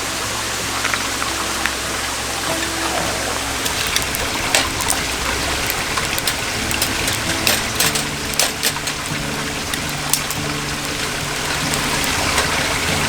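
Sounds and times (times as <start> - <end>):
stream running over rocks: 0.0 - 13.0
water splashes and drips: 0.0 - 13.0.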